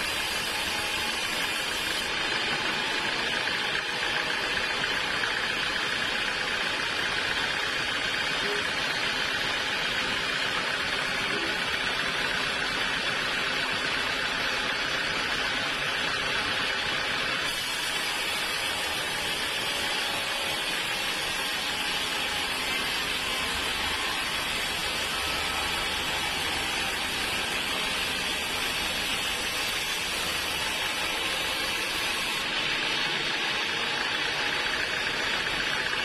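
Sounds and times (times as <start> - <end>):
sawmill saw running: 0.0 - 36.0.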